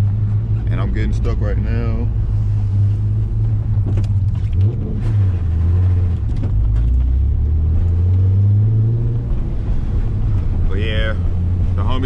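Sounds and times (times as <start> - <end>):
car engine revving inside cabin: 0.0 - 12.0.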